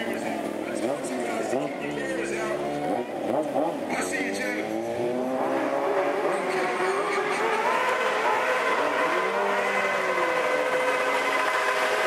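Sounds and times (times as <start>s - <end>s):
motorcycle engine revving: 0.6s - 12.0s.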